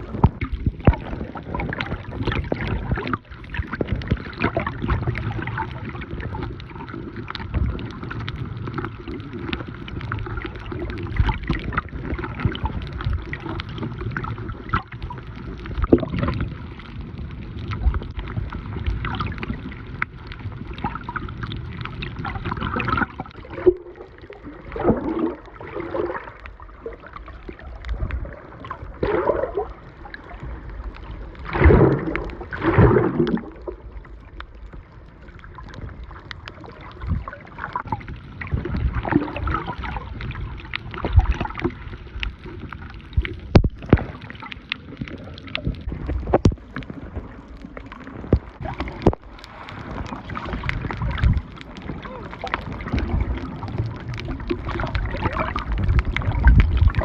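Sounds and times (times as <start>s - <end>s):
water sloshing and gurgling: 0.0s - 57.0s.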